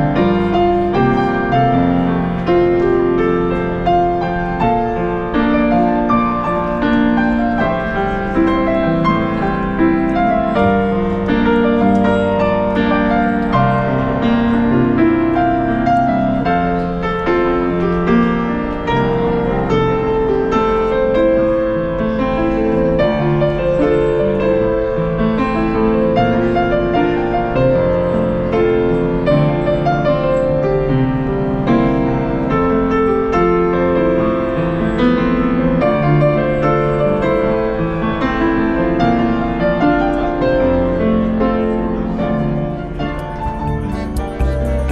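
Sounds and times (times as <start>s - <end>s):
grand piano melody over chords: 0.0s - 44.9s.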